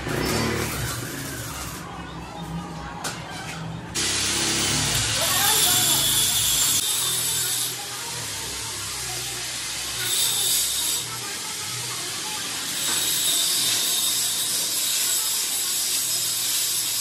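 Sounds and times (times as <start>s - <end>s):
welding arc crackling hiss: 0.5s - 1.8s, 4.0s - 17.0s.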